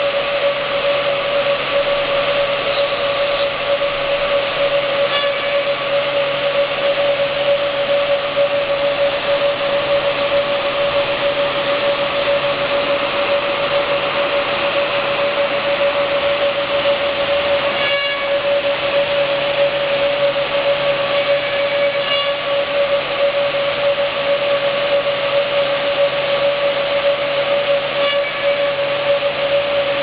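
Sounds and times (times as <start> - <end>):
woodworking machine whine: 0.0 - 30.0.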